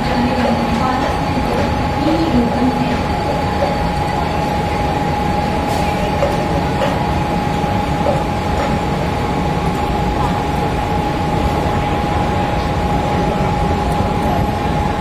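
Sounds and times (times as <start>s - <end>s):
constant whine: 0.0s - 15.0s
train rumble and running noise: 0.0s - 15.0s.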